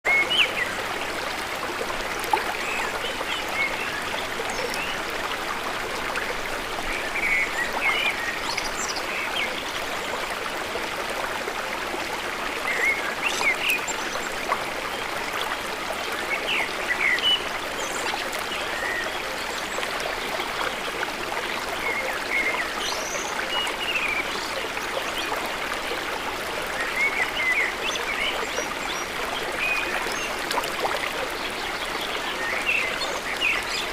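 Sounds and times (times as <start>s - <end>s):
water rushing in a canal: 0.0s - 33.9s.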